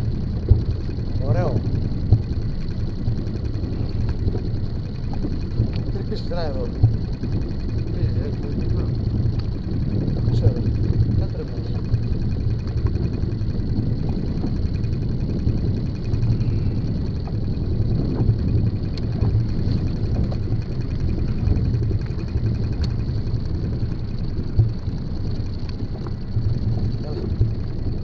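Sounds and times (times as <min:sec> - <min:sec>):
low boat rumble: 0:00.0 - 0:28.0
faint clicks: 0:02.1 - 0:27.7.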